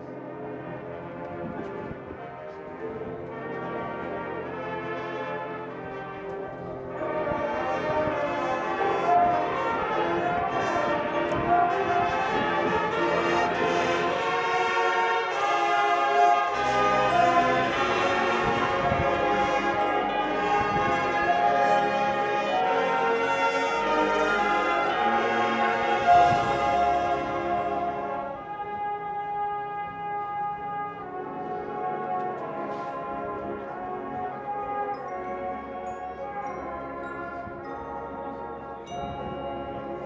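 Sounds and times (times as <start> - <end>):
brass sustained chords: 0.0 - 40.0
marching band playing: 0.0 - 40.0.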